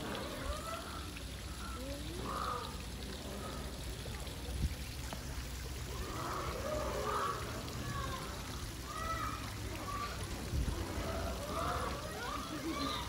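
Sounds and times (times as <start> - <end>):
faint voices: 0.0 - 13.0
running water rushing: 0.0 - 13.0.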